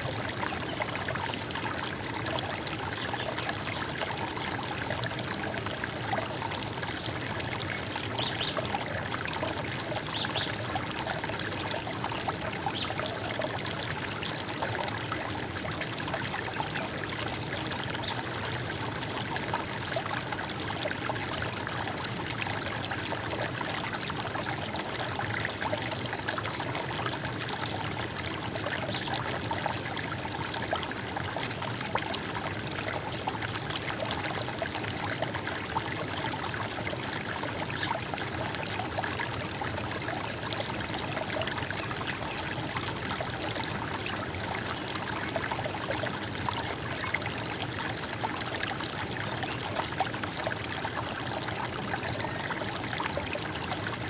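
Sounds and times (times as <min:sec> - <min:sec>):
running water gurgling: 0:00.0 - 0:54.0.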